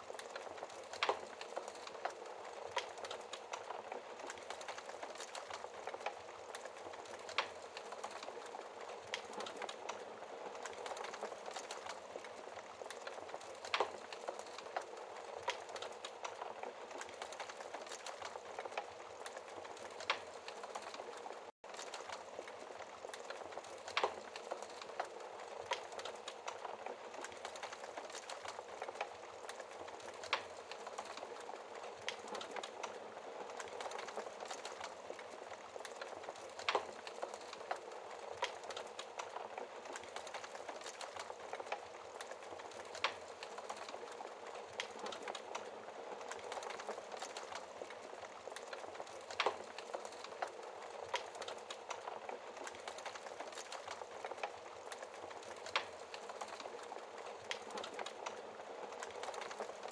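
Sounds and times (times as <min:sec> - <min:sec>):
wood fire crackling: 0:00.0 - 0:59.9
fire pops: 0:00.1 - 0:59.8.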